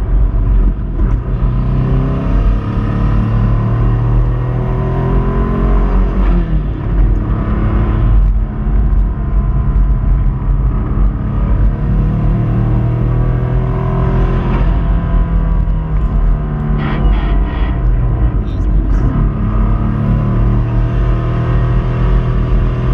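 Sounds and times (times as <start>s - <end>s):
car engine under load: 0.0s - 22.9s.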